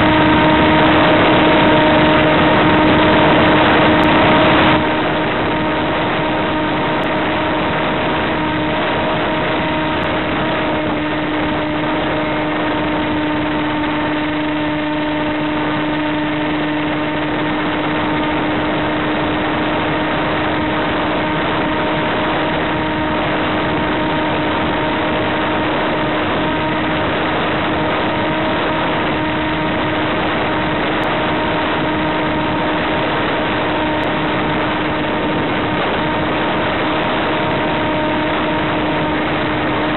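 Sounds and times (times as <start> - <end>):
model plane electric motor humming: 0.0 - 39.9.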